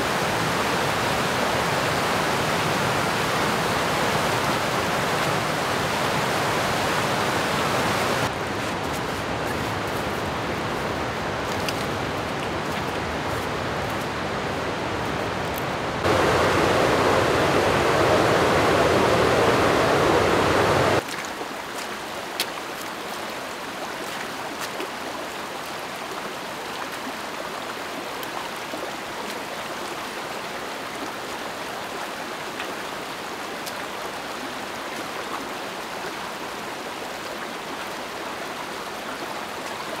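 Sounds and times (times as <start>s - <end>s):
creek rushing over boulders: 0.0s - 40.0s.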